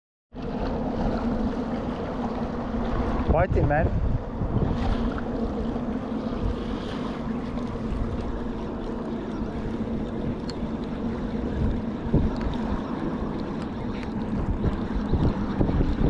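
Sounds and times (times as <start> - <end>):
small waves lapping: 0.4 - 16.0
steady low hum: 0.4 - 16.0
wind rumbling on microphone: 0.4 - 16.0.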